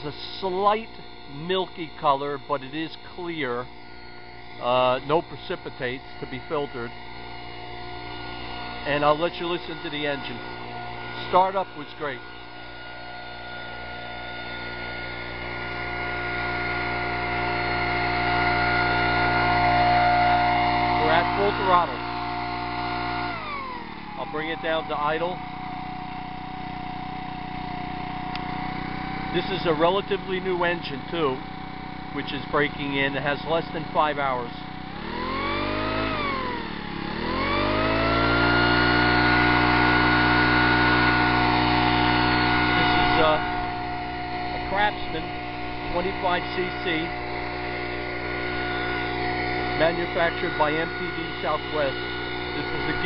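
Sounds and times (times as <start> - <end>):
leaf blower running: 0.0 - 53.0.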